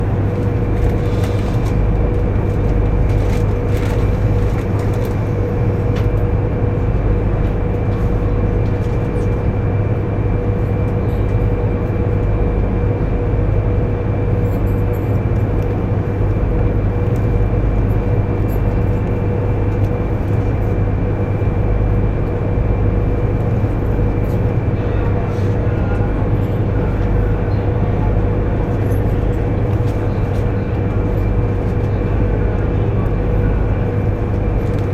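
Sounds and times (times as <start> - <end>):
steady hum: 0.0 - 34.9
train cabin low rumble: 0.0 - 34.9.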